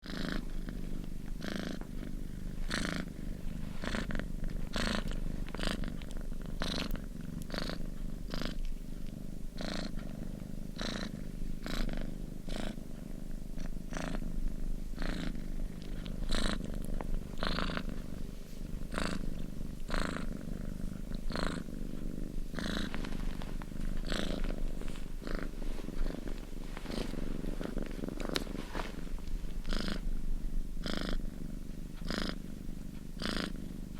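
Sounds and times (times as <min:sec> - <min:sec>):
cat purring: 0:00.0 - 0:33.9.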